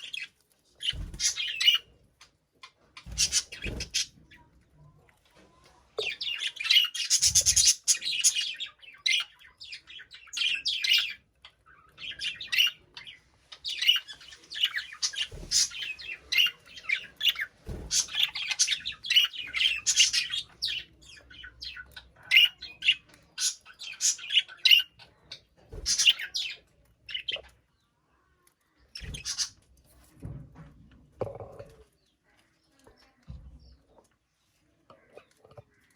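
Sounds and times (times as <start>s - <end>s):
budgies chirping and chattering: 0.0s - 30.4s.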